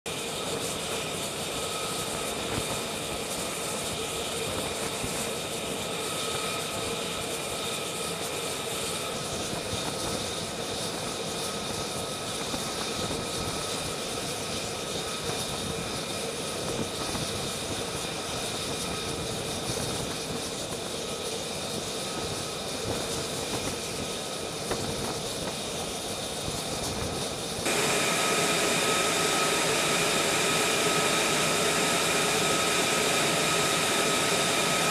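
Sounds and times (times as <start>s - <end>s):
high jet engine whine: 0.1s - 34.9s
jet engine roar: 0.1s - 34.9s.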